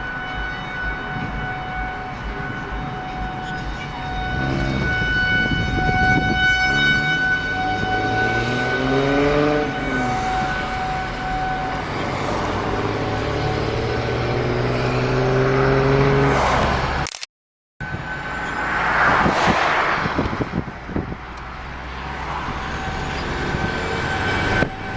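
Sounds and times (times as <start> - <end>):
warning siren steady tone: 0.0 - 16.6, 17.8 - 24.9
car engine and road noise: 0.0 - 24.9.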